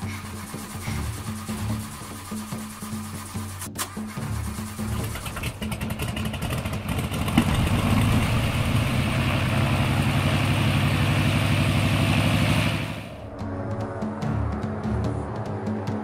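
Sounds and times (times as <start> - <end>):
propeller plane piston engine: 0.0 - 13.3.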